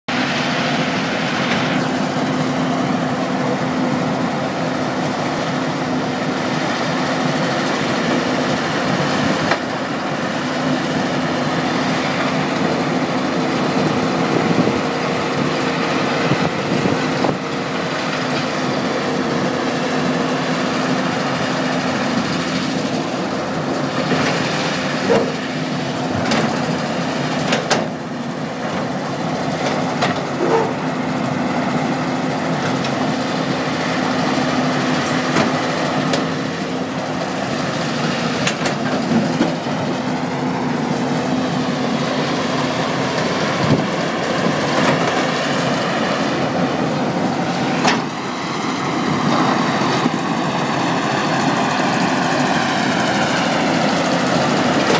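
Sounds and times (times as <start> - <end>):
diesel machinery drone: 0.0 - 54.9.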